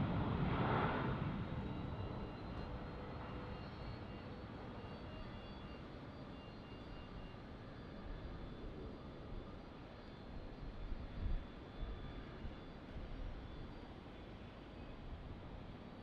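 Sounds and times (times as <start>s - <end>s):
high-pitched whine: 0.0s - 15.0s
jet engine rumble: 0.0s - 16.0s.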